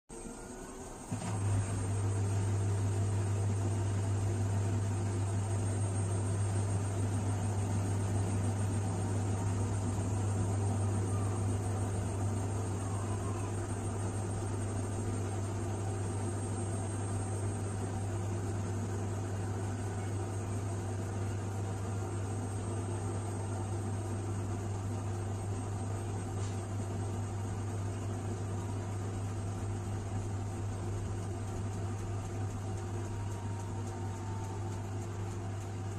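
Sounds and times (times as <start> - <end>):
washing machine humming: 0.1 - 35.9.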